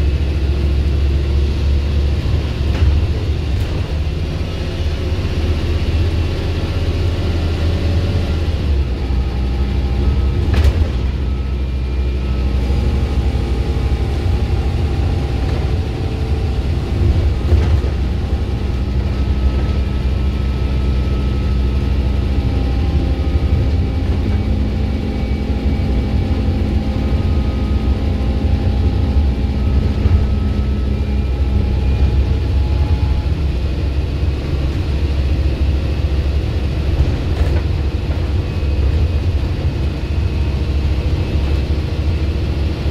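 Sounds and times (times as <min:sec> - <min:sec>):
bus diesel engine droning: 0:00.0 - 0:42.9.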